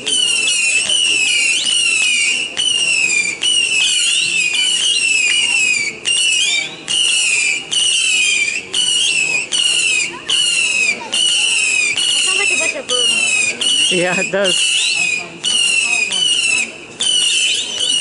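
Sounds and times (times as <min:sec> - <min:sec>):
whistling fireworks: 0:00.0 - 0:18.0.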